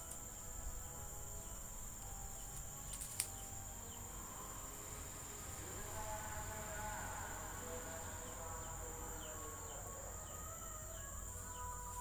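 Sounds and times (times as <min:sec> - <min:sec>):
high-pitched insect chirring: 0:00.0 - 0:12.0.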